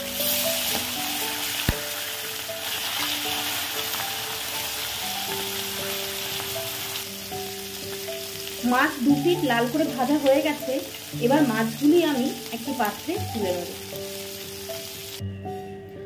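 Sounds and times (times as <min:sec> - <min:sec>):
fish sizzling in oil: 0:00.0 - 0:15.2.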